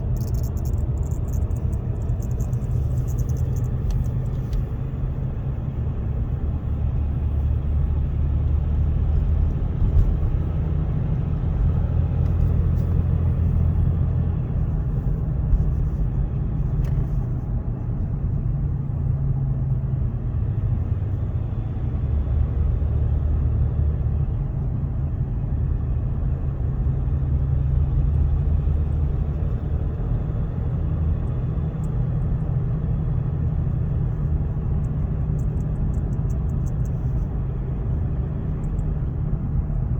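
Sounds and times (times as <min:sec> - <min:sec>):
road and drivetrain rumble: 0:00.0 - 0:39.9.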